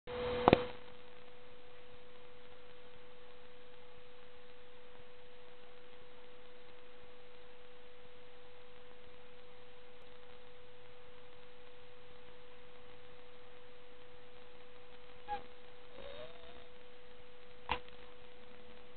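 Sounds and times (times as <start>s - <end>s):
steady pure tone: 0.1s - 18.9s.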